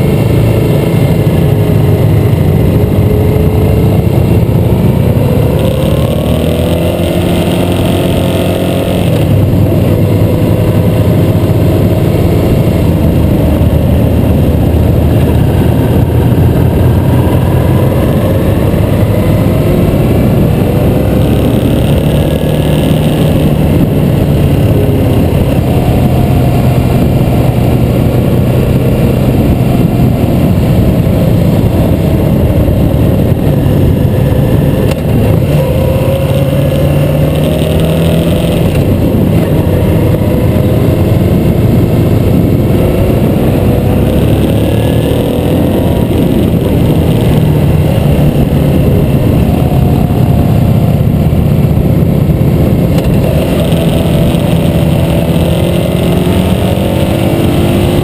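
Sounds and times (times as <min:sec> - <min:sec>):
motorcycle engine running: 0:00.0 - 0:58.0
wind rush: 0:00.0 - 0:58.0.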